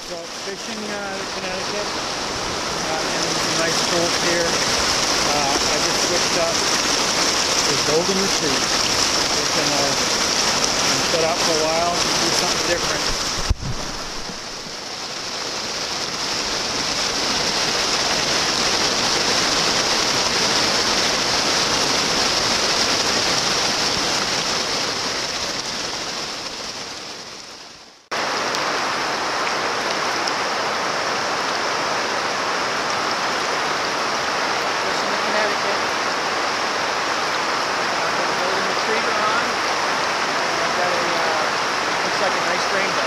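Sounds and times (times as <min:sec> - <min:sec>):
river water rushing over rocks: 0:00.0 - 0:43.0.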